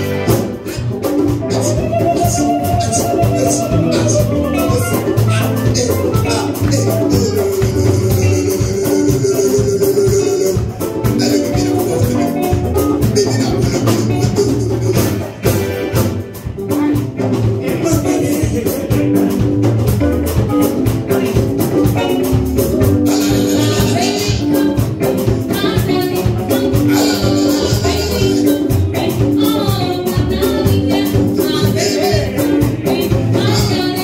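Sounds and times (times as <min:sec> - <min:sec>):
drum kit and hand drum beat: 0:00.0 - 0:34.0
electric guitar: 0:00.0 - 0:34.0
keyboard: 0:00.0 - 0:34.0
person singing: 0:00.5 - 0:15.3, 0:17.2 - 0:19.8, 0:20.4 - 0:34.0.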